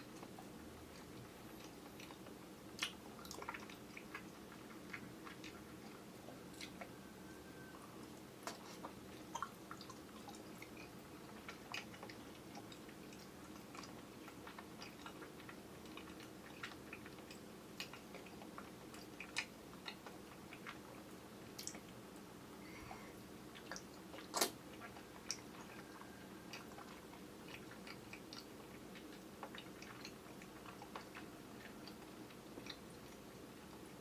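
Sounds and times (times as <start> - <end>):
low room hum: 0.0 - 34.0
wet chewing smacks: 0.0 - 34.0.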